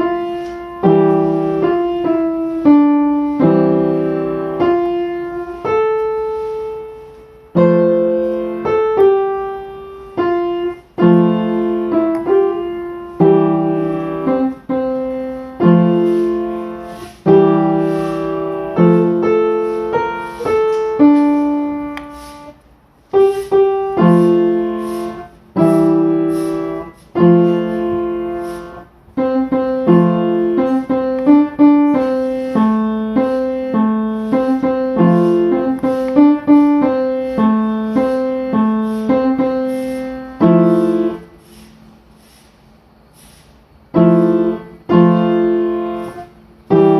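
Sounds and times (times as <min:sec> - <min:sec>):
slow solo piano chords: 0:00.0 - 0:42.0, 0:43.8 - 0:46.9.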